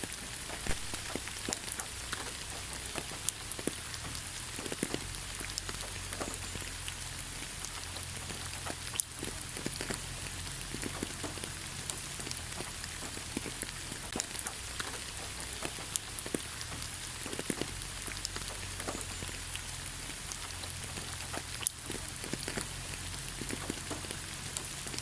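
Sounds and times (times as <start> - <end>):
raindrops striking close by: 0.0 - 25.0
steady rain hiss: 0.0 - 25.0.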